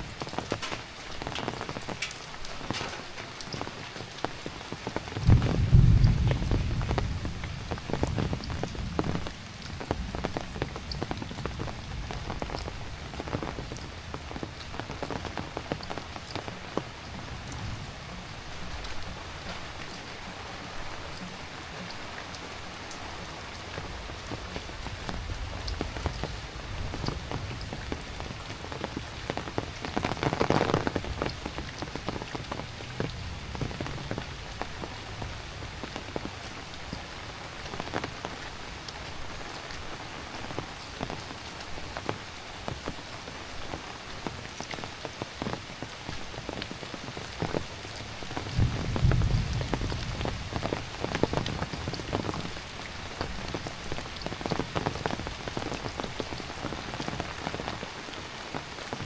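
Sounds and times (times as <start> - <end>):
heavy rain: 0.0 - 59.0
raindrops ticking on surfaces: 0.0 - 59.0.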